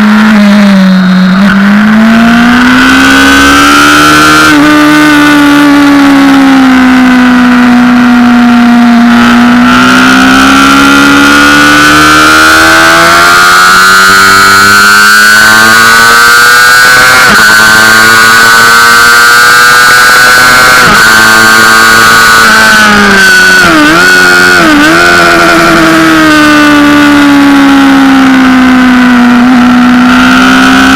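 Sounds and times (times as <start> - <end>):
motorcycle engine under load: 0.0 - 30.9.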